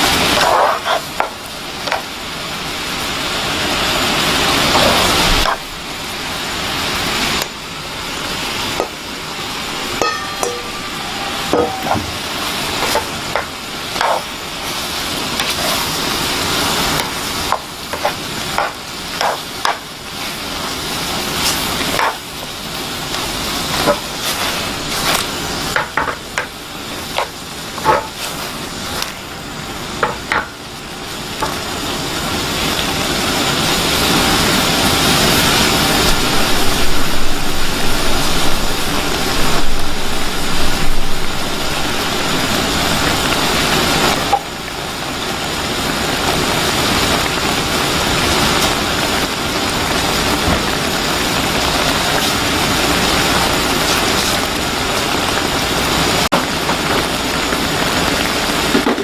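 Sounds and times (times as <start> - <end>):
sizzling hiss: 0.0 - 58.8.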